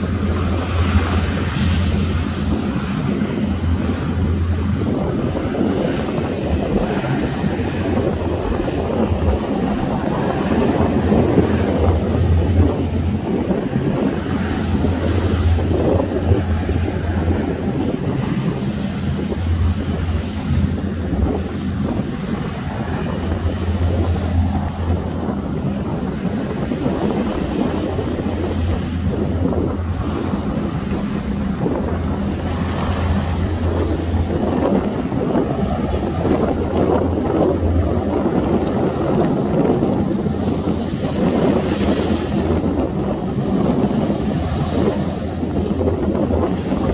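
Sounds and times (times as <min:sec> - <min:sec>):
choppy sea: 0:00.0 - 0:46.9
hovercraft engine drone: 0:00.0 - 0:46.9
wind buffeting microphone: 0:00.0 - 0:46.9.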